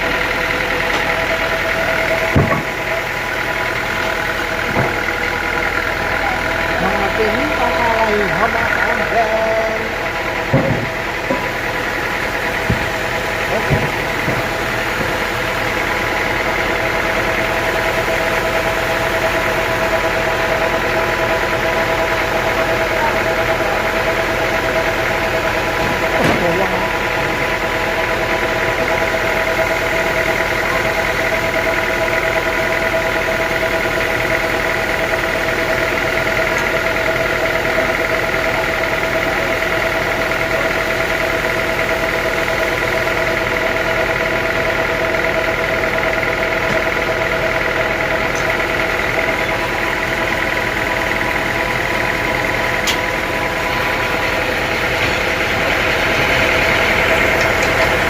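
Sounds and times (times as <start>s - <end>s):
machinery motor hum: 0.0s - 58.0s
machinery whine: 0.0s - 58.0s.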